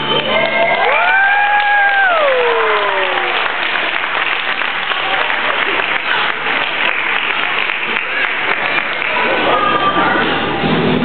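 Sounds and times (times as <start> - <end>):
audience applause: 0.0 - 10.1.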